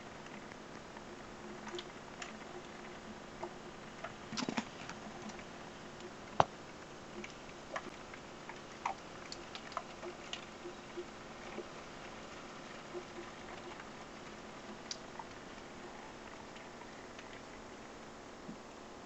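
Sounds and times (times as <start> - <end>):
raindrops ticking on hard surface: 0.0 - 18.8
faint hiss of rain: 0.0 - 19.0.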